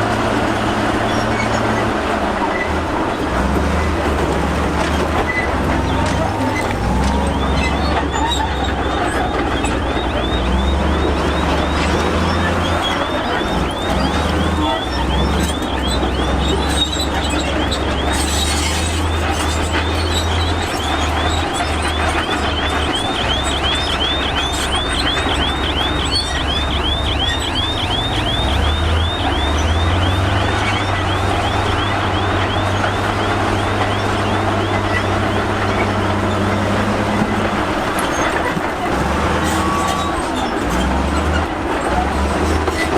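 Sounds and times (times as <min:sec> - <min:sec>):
diesel machinery running: 0:00.0 - 0:42.9
rhythmic high-pitched squeal: 0:00.1 - 0:42.9.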